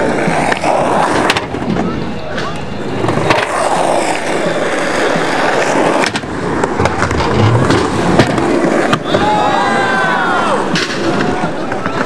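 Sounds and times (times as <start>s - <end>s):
skateboard clacks: 0.0s - 12.0s
skateboard wheels rolling on asphalt: 0.0s - 12.0s.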